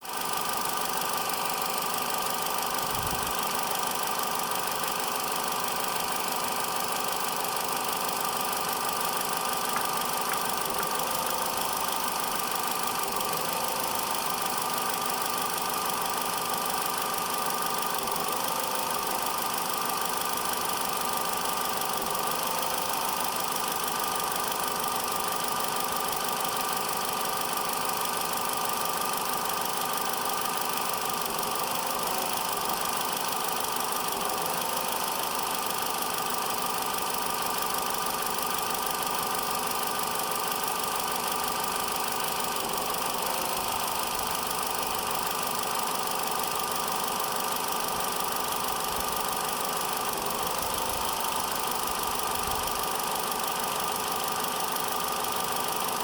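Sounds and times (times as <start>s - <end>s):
engine knock: 0.0s - 56.0s
car engine idling: 0.1s - 56.0s.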